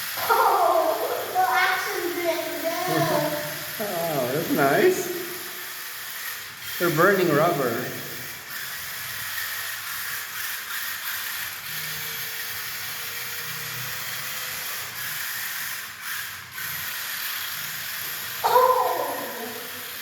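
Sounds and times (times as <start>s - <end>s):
toy car electric motor whirring: 0.0s - 20.0s.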